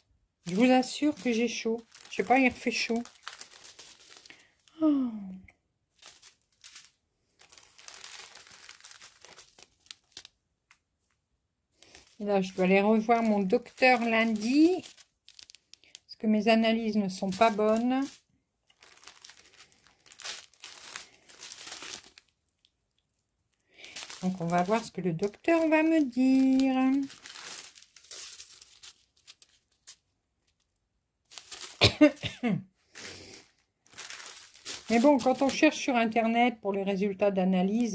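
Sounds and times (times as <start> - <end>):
plastic packets crinkling: 0.0 - 4.9, 5.9 - 37.9.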